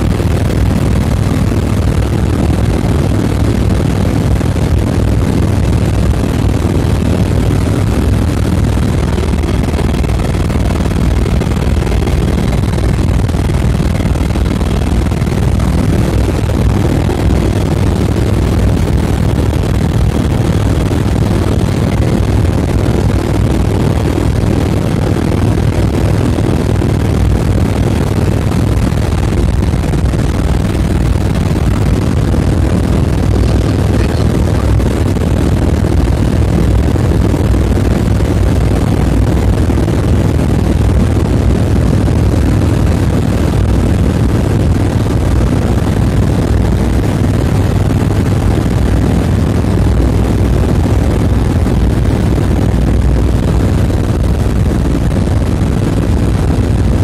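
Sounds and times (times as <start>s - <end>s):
helicopter cabin drone: 0.0s - 57.0s.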